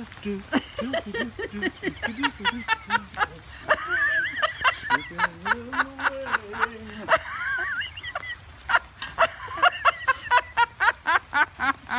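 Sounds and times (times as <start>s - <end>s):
person giggling: 0.5s - 11.9s.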